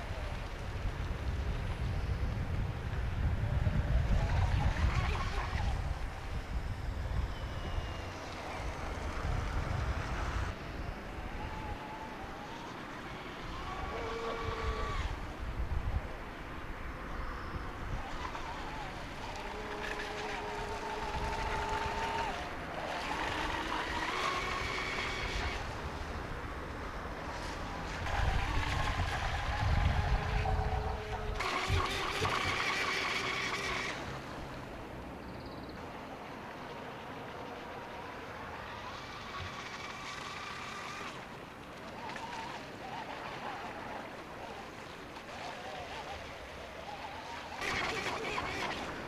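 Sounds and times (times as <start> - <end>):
model boat motor whining: 0.0 - 49.0
water and wind hiss: 0.0 - 49.0.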